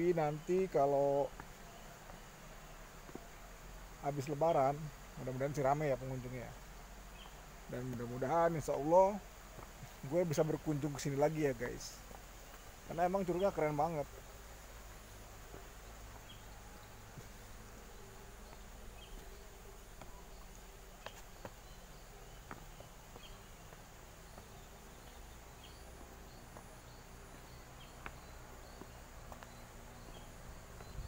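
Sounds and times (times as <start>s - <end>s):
insect chirps: 0.0s - 31.0s
insects droning: 0.0s - 31.0s.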